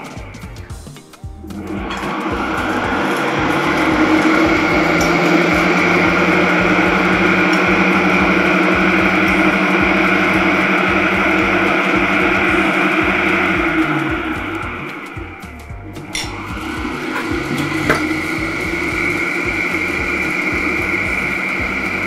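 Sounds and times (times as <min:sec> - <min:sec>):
guitar chord music: 0:01.2 - 0:22.0.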